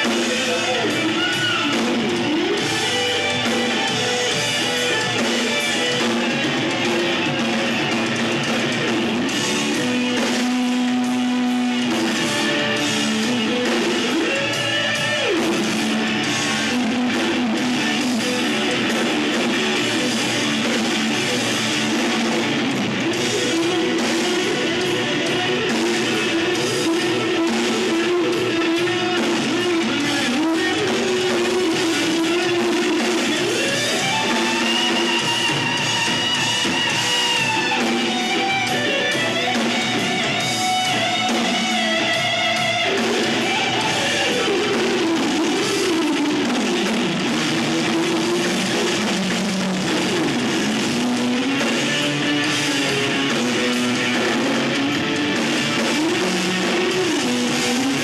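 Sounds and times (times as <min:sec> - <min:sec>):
bending guitar melody: 0:00.0 - 0:58.0
live rock band playing: 0:00.0 - 0:58.0.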